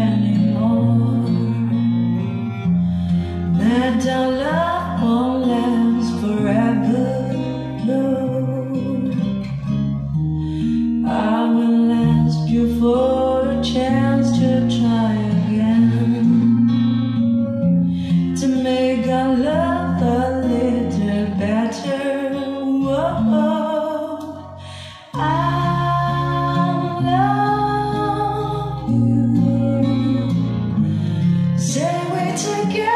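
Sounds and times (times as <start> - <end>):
song with singing over guitar and bass: 0.0 - 32.9.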